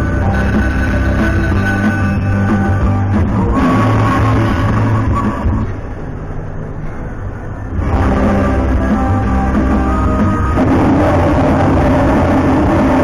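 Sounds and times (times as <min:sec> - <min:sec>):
slot machine music: 0:00.0 - 0:05.6, 0:07.8 - 0:13.0.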